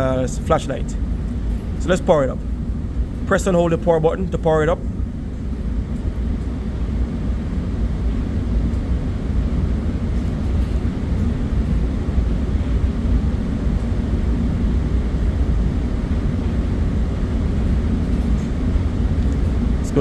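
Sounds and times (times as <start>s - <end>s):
low rumble of machinery: 0.0s - 20.0s.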